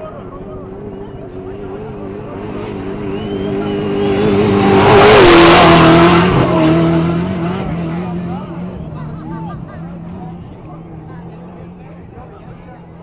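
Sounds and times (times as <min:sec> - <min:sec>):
race truck passing at speed: 0:00.9 - 0:12.5.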